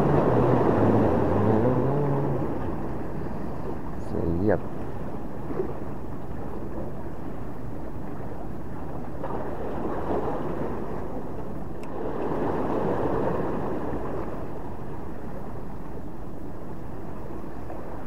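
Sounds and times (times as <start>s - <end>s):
waves washing against breakwater: 0.0s - 16.0s.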